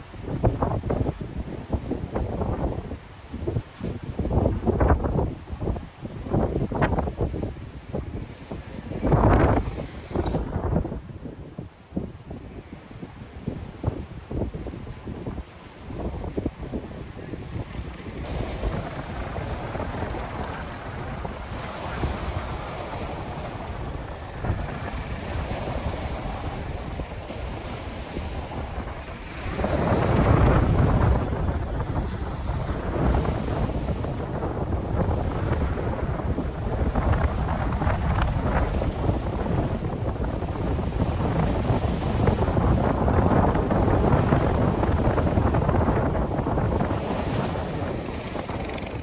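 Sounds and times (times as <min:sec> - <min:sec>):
gale buffeting microphone: 0:00.0 - 0:49.0
breaking surf: 0:01.9 - 0:11.0, 0:15.2 - 0:49.0.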